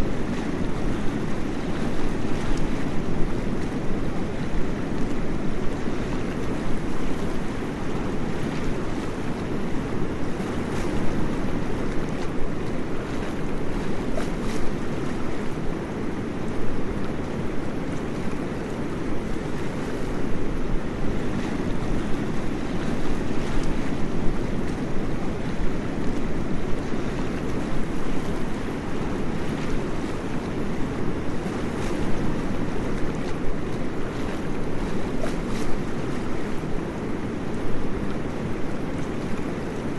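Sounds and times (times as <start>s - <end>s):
faint water splashes: 0.0s - 39.9s.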